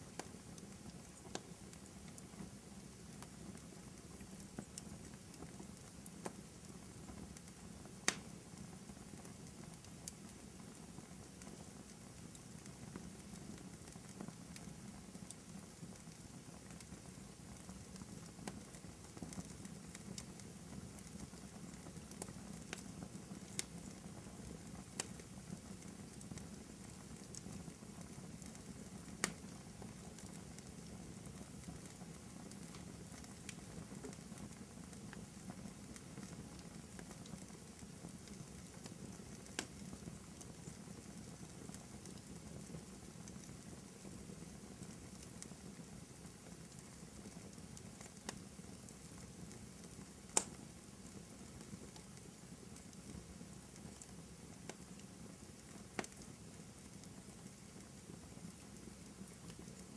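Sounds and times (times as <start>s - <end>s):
fire crackles and pops: 0.0s - 59.9s.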